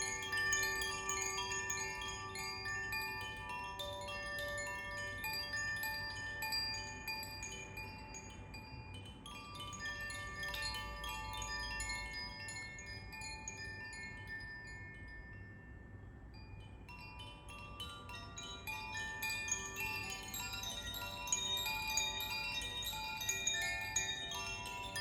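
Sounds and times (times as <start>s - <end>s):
wind chimes tinkling: 0.0s - 25.0s.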